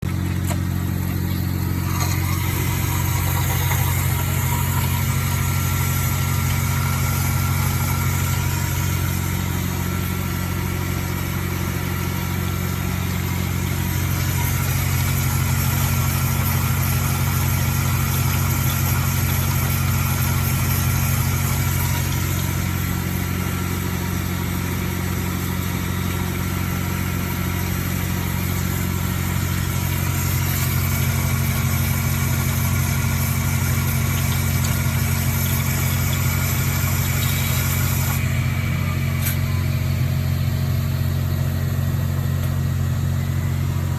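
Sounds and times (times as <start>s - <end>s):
machine motors and pumps humming: 0.0s - 43.9s.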